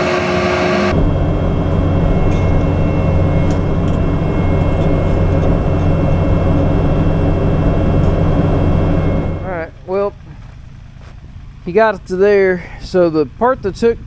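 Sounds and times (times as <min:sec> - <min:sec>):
diesel engine running under load: 0:00.0 - 0:14.0
faint high whine: 0:00.0 - 0:14.0.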